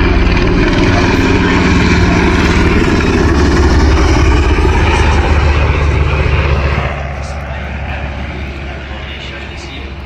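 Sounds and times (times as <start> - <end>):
helicopter rotor chopping overhead: 0.0 - 10.0.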